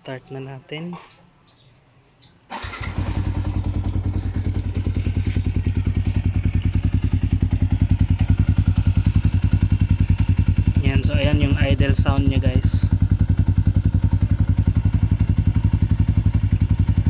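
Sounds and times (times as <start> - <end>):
motorcycle engine idling: 2.6 - 17.0.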